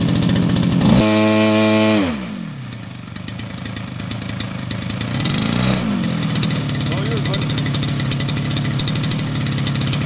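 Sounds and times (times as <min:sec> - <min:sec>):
model plane engine idling: 0:00.0 - 0:10.0.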